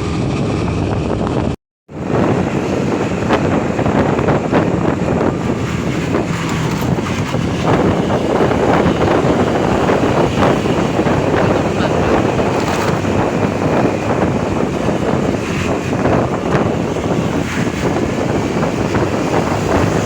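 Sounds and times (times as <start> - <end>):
road traffic: 0.0 - 20.0
wind buffeting microphone: 0.0 - 20.0.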